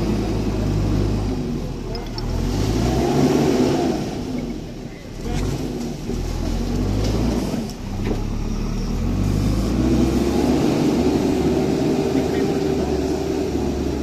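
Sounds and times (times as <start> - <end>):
heavy machinery engine running: 0.0 - 14.0.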